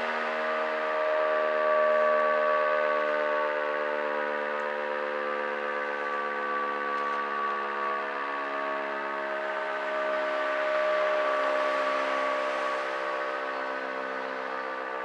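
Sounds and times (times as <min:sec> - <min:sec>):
motor siren wailing: 0:00.0 - 0:15.0.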